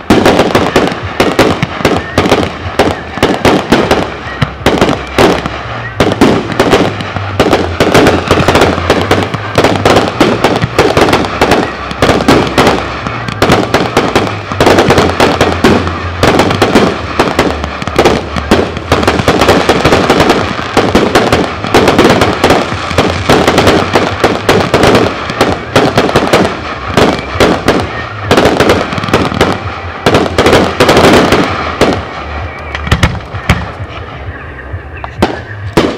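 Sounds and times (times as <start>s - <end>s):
fireworks firing rapid barrage: 0.0s - 35.9s.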